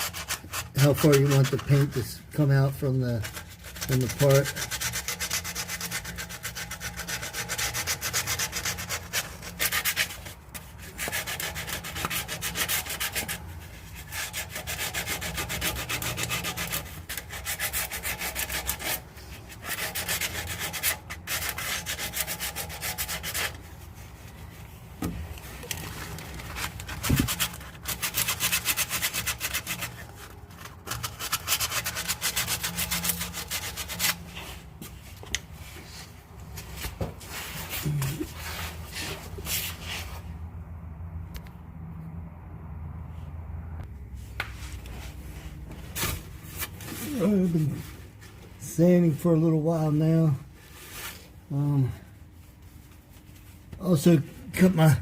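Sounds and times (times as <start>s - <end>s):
sandpaper rubbing on metal: 0.0s - 24.6s, 25.8s - 34.7s, 37.2s - 40.3s, 45.4s - 55.0s.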